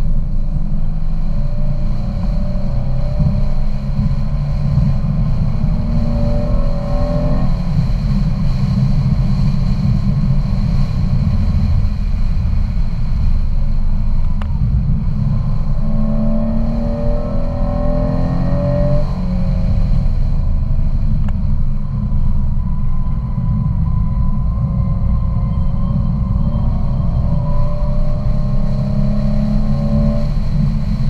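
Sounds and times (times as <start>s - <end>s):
car engine: 0.0s - 31.0s
road noise inside car: 0.0s - 31.0s.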